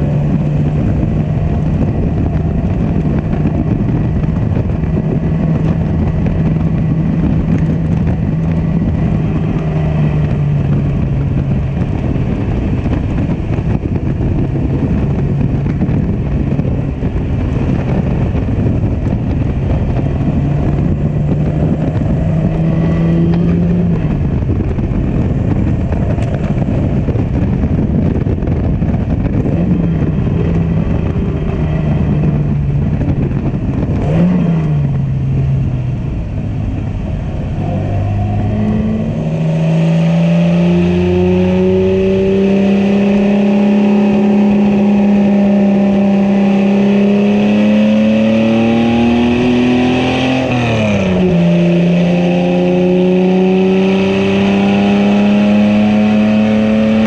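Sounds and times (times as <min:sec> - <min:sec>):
car engine accelerating: 0:00.0 - 0:57.0
wind and road rush: 0:00.0 - 0:57.0.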